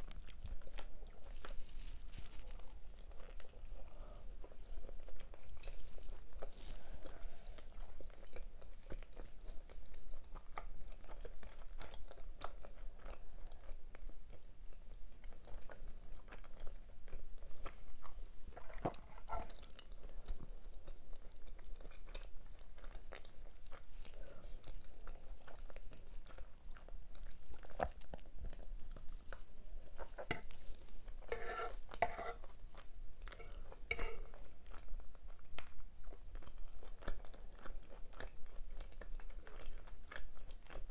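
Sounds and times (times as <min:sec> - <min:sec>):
chewing and biting food: 0:00.0 - 0:40.9
food crunching: 0:00.0 - 0:40.9.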